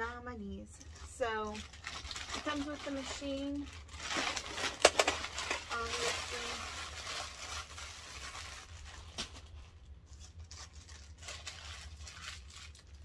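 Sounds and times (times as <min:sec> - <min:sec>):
plastic bag crinkling: 0:00.1 - 0:13.0.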